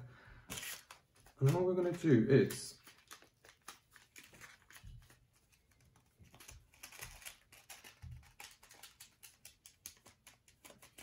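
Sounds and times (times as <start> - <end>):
paper packet crinkling: 0.5 - 11.0.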